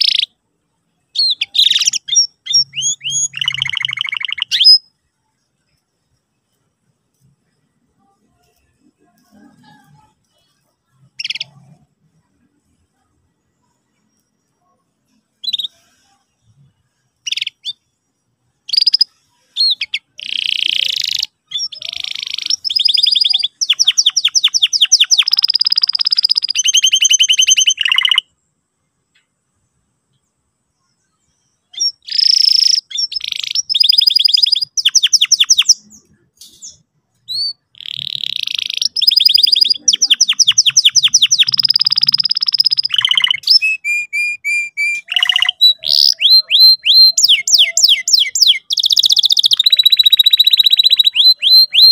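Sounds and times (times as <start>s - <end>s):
canary singing: 0.0s - 5.0s, 7.2s - 12.6s, 13.4s - 28.4s, 31.2s - 51.9s.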